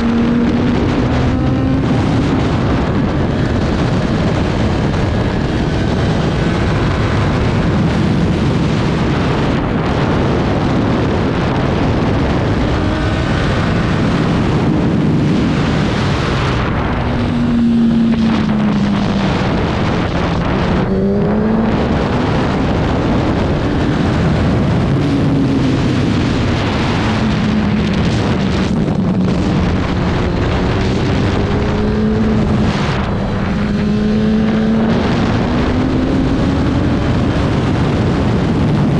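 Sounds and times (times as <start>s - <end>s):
racing motorcycle engine: 0.0s - 38.9s
wind rush on microphone: 0.0s - 38.9s.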